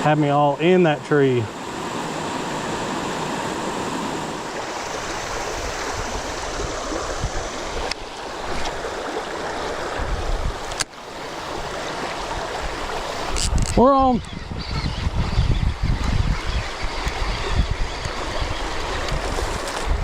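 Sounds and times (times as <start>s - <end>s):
creek rushing: 0.0s - 14.1s, 15.8s - 20.0s.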